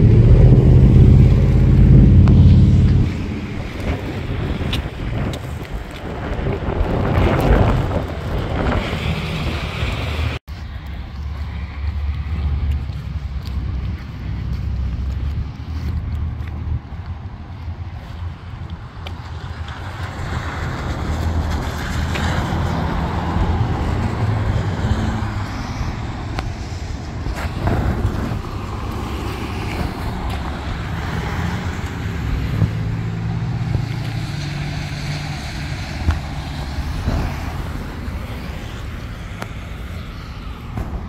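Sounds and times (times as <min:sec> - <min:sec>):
traffic on wet street: 0:00.0 - 0:41.0.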